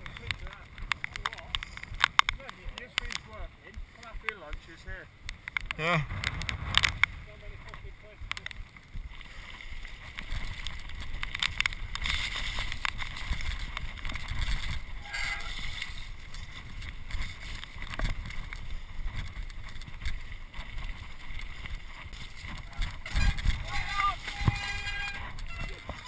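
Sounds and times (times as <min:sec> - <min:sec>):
bike rattling over stones: 0:00.0 - 0:26.0
tyres on gravel: 0:00.0 - 0:26.0
wind rumble: 0:00.0 - 0:26.0.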